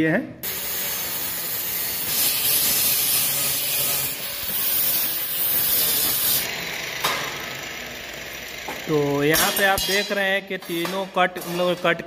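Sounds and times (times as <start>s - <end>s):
angle grinder cutting sheet metal: 0.4s - 12.0s.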